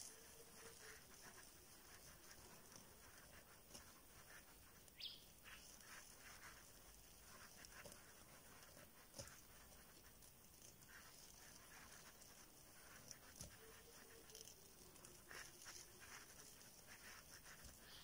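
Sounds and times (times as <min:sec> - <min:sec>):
faint ticks: 0:00.0 - 0:18.0.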